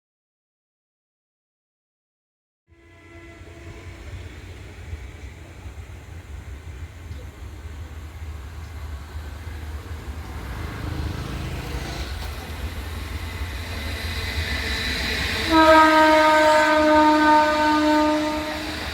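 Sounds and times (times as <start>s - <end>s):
train approaching with low rumble: 2.7s - 18.9s.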